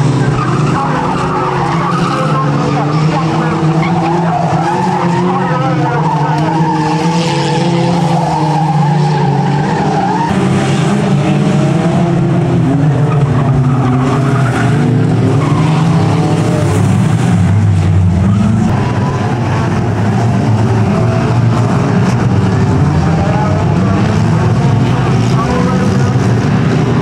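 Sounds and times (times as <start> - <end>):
racing car engines revving: 0.0 - 27.0.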